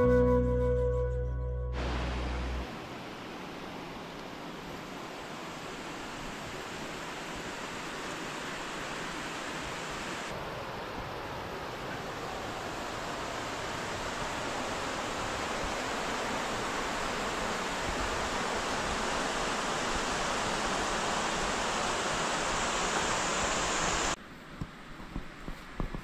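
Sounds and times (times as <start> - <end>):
fast-flowing river rushing: 1.8 - 24.2.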